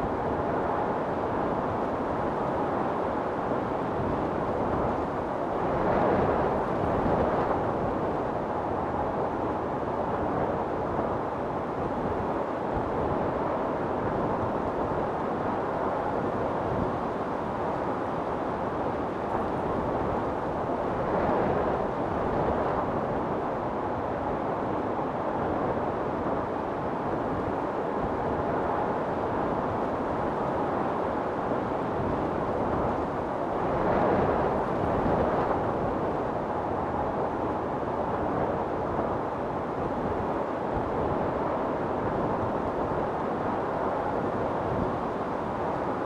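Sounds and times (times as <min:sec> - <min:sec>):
wind blowing hard: 0:00.0 - 0:46.0.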